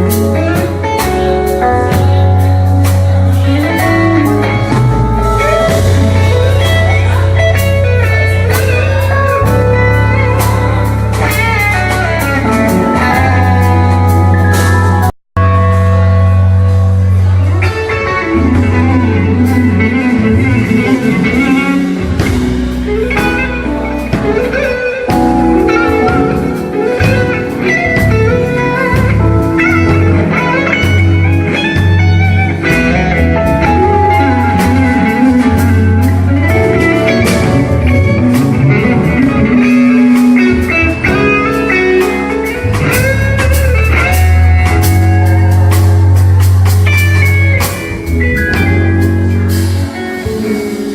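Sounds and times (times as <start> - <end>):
drums: 0.0 - 50.9
guitar melody: 0.0 - 50.9
sustained bass notes: 0.0 - 50.9.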